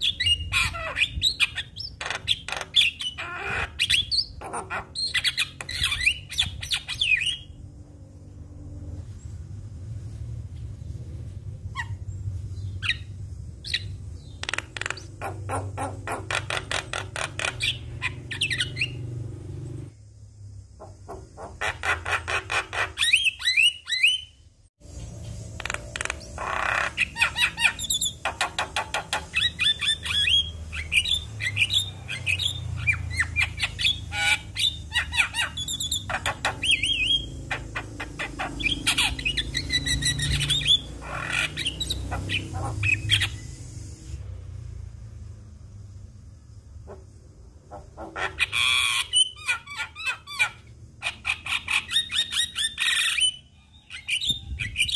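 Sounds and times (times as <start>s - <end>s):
birds chattering and whistling: 0.0s - 7.6s, 10.6s - 20.0s, 20.8s - 44.2s, 46.8s - 54.9s.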